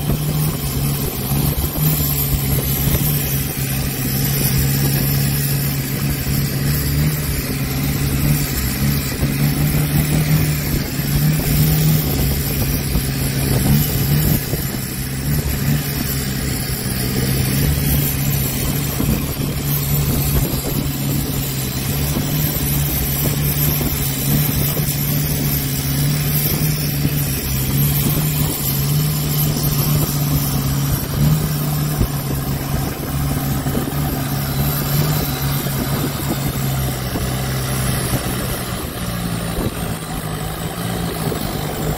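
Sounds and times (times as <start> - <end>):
boat motor humming: 0.0 - 41.9
water and wind hiss: 0.0 - 41.9.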